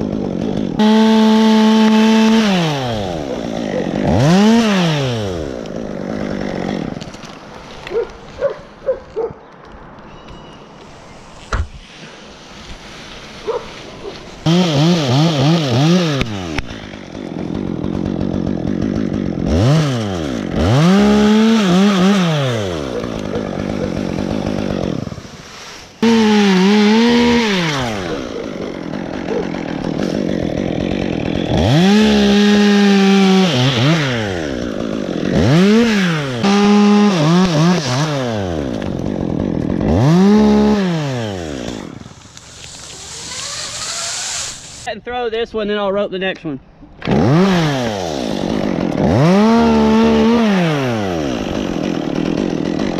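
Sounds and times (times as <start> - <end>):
chainsaw revving and cutting wood: 0.0 - 9.2, 11.4 - 44.9, 47.0 - 52.9.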